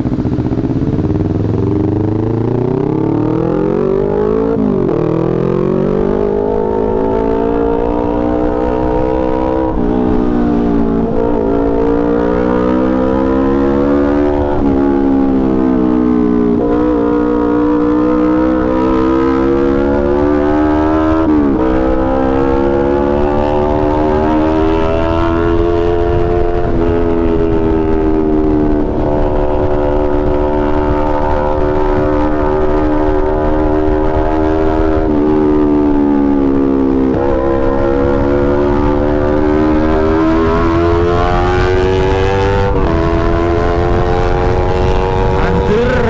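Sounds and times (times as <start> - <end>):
motorcycle engine accelerating: 0.0 - 46.0
wind rumble on microphone: 0.0 - 46.0.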